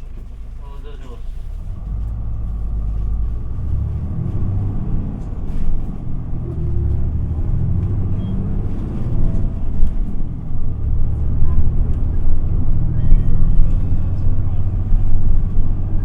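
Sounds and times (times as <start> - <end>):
bus diesel engine: 0.0 - 16.0
road rumble: 0.0 - 16.0.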